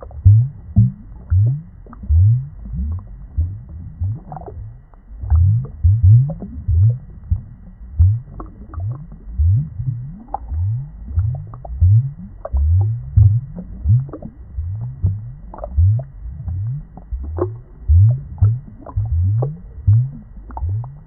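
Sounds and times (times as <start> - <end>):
aquarium water gurgling: 0.0 - 21.0
bubbles popping: 0.0 - 21.0.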